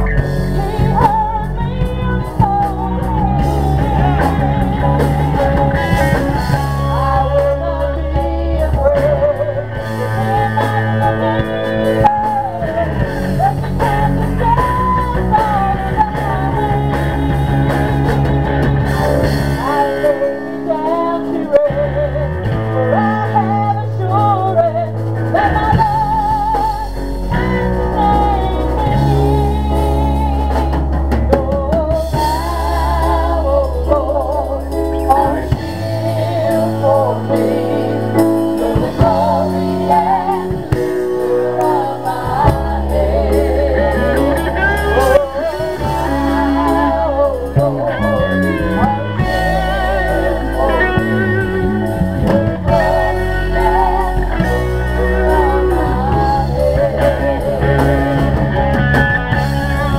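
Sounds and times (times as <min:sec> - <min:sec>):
woman singing backing vocals: 0:00.0 - 0:18.7, 0:19.5 - 0:58.7
bass notes: 0:00.0 - 0:59.9
electric guitar: 0:00.0 - 0:59.9
woman singing lead: 0:00.0 - 0:59.9.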